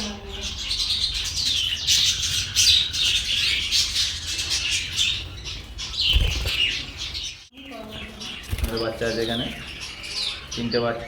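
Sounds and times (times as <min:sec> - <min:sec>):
caged birds chirping and squawking: 0:00.0 - 0:11.0.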